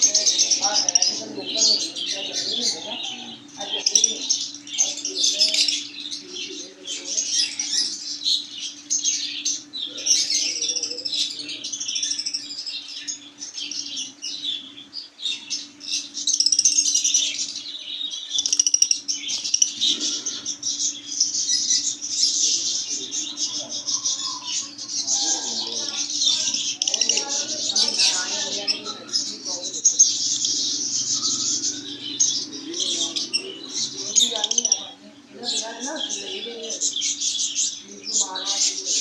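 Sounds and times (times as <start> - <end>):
parrots chattering and chirping: 0.0 - 39.0
steady low hum: 0.0 - 39.0.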